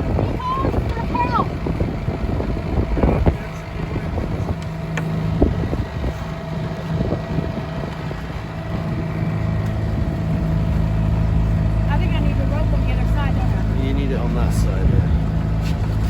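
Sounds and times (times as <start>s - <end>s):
boat motor running: 0.0s - 16.0s
wind buffeting microphone: 0.0s - 16.0s.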